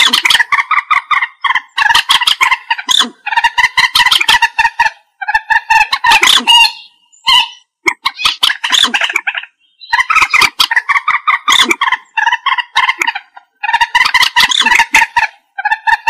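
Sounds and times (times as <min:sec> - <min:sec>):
moorhen clucking calls: 0:00.0 - 0:16.0.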